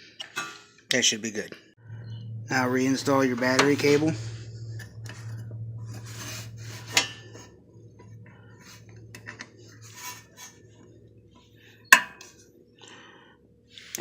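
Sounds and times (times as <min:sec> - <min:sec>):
low steady hum: 0:01.8 - 0:14.0.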